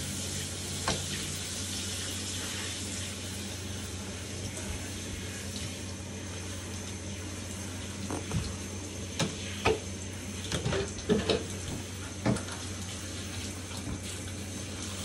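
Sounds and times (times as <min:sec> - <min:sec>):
faucet water running into sink: 0:00.0 - 0:15.0.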